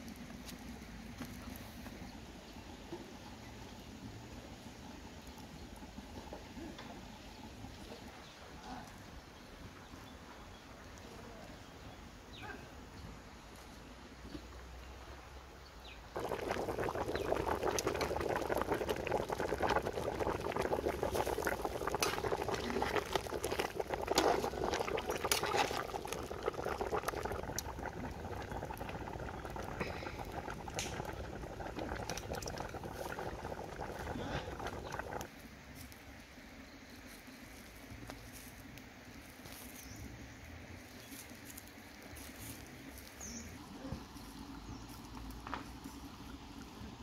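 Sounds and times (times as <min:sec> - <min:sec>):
stew boiling and bubbling: 0:00.0 - 0:12.3, 0:12.9 - 0:47.0.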